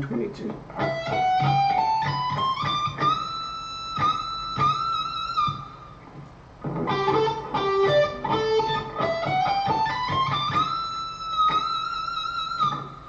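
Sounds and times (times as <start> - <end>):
electric guitar scale run: 0.7 - 5.6, 6.6 - 12.9.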